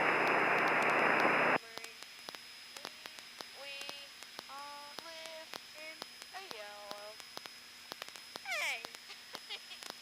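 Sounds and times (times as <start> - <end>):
faint humming: 0.0 - 10.0
radio static hiss: 0.0 - 10.0
faint clicks: 0.6 - 10.0.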